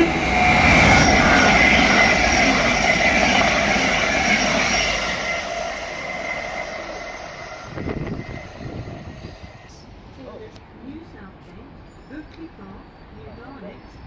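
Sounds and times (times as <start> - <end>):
electric train passing at speed: 0.0 - 14.0.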